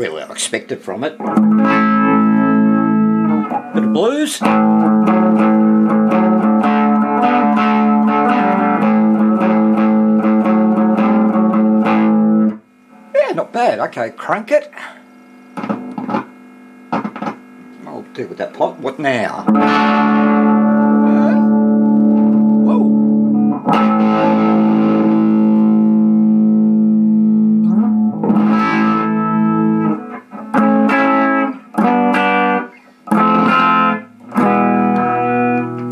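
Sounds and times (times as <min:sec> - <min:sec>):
electric guitar blues riff: 0:00.0 - 0:13.6, 0:14.4 - 0:17.5, 0:19.1 - 0:35.9.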